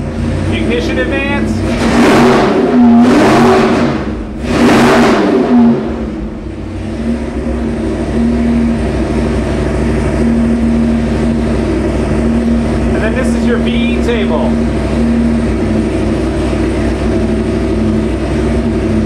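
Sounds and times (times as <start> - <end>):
engine revving and idling: 0.0 - 19.0.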